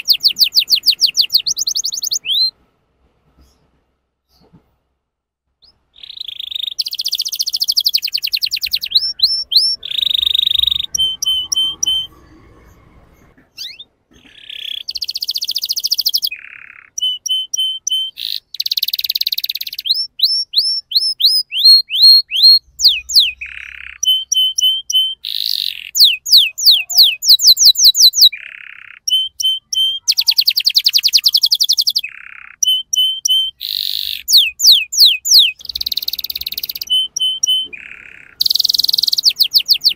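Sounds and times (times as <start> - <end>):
canary singing trills: 0.0 - 2.6, 5.6 - 39.9.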